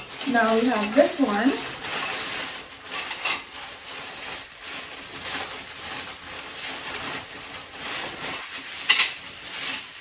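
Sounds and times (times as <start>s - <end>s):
plastic wrapping crinkling: 0.0s - 10.0s.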